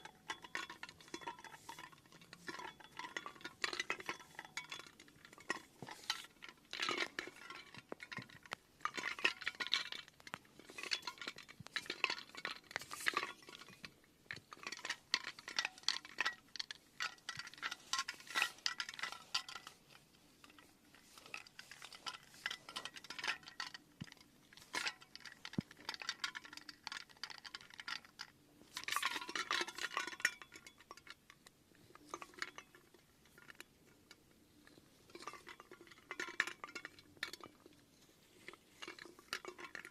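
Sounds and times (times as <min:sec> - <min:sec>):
clinks and scrapes of small objects: 0:00.0 - 0:39.9.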